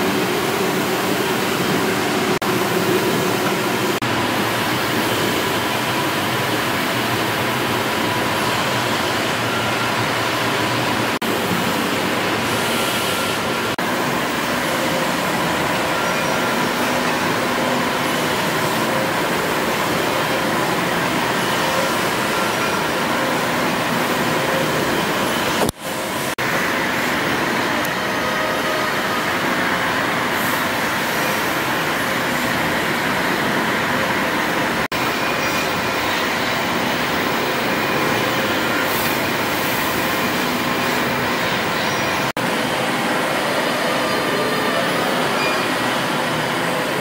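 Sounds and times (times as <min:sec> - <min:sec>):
steam engines running: 0:00.0 - 0:47.0.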